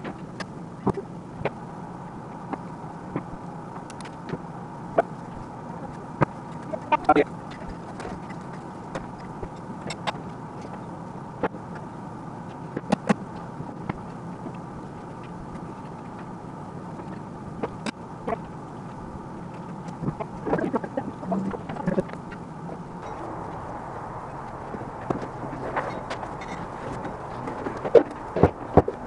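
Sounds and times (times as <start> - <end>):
faint hum: 0.0 - 29.0
steady hiss: 0.0 - 29.0.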